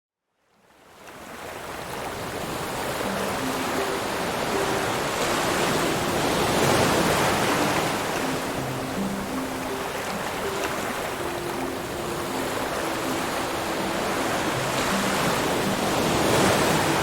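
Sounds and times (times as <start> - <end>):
rushing water: 0.7 - 17.0.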